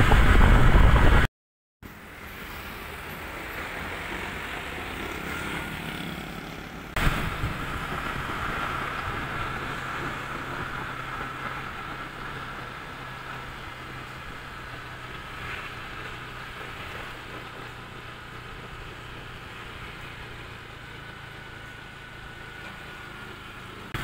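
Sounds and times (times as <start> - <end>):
road and traffic noise: 0.0 - 24.0
motorcycle engine hum: 1.9 - 24.0.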